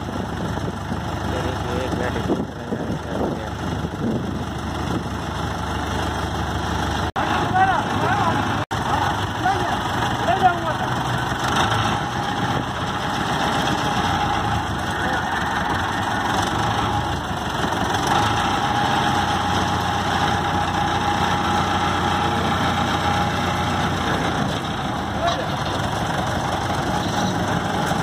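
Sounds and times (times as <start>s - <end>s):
road roller engine idling: 0.0s - 28.0s.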